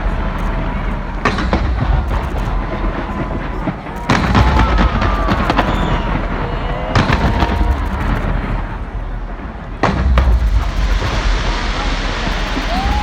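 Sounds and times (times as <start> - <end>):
fireworks crackling and popping: 0.0 - 13.0
fireworks shells bursting: 0.0 - 13.0.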